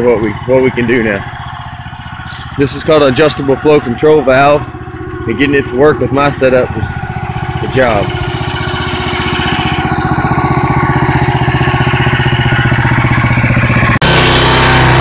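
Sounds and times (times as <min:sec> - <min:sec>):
drill rig engine running: 0:00.0 - 0:15.0.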